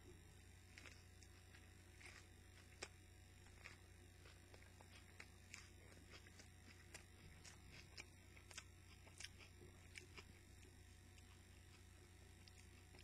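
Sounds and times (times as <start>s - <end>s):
low steady hum: 0.0s - 13.0s
faint chewing: 0.1s - 13.0s.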